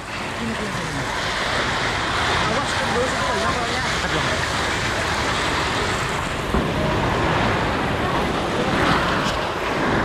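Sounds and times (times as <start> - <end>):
fire hose spraying water: 0.0 - 10.0.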